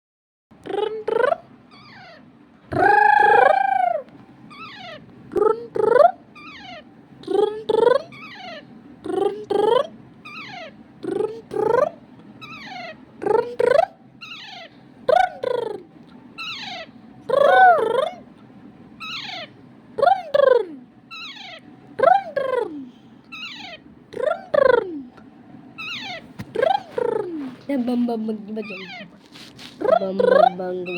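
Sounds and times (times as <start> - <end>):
parrot squawking: 0.9 - 18.3, 19.0 - 24.9, 25.7 - 27.6, 28.5 - 30.9.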